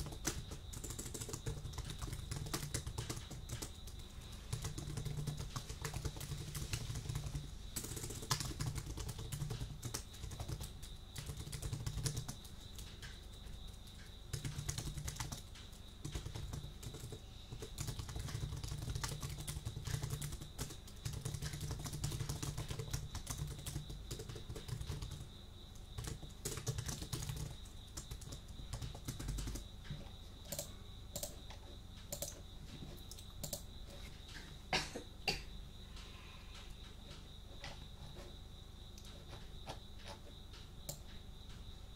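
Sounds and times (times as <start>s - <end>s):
keyboard typing: 0.0s - 34.1s.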